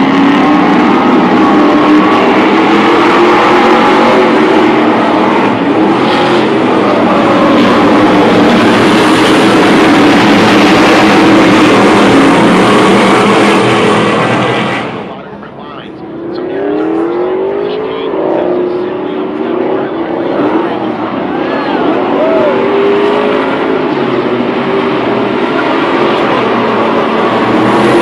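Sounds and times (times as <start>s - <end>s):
racing truck engines passing: 0.0s - 28.0s.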